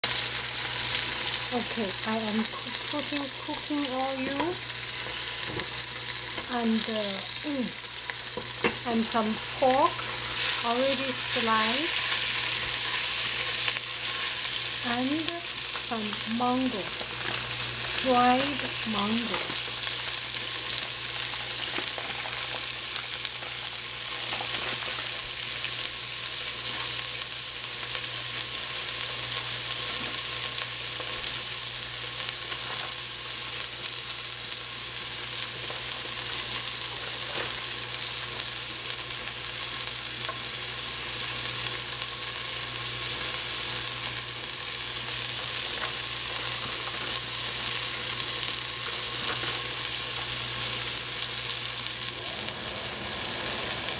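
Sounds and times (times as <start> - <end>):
food sizzling in oil: 0.0 - 53.9.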